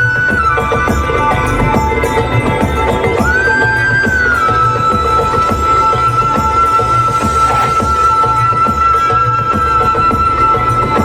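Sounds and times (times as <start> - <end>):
pulsing low beat: 0.0 - 11.0.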